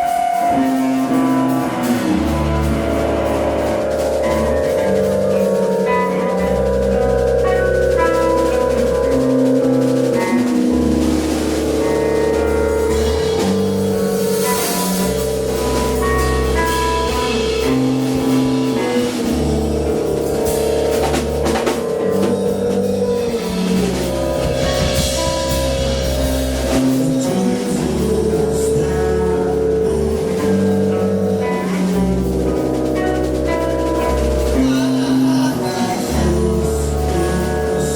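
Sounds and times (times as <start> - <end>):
live band music: 0.0 - 37.9.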